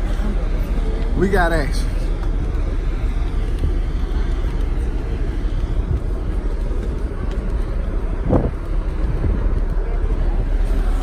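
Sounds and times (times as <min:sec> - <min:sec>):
wind buffeting microphone: 0:01.9 - 0:11.0.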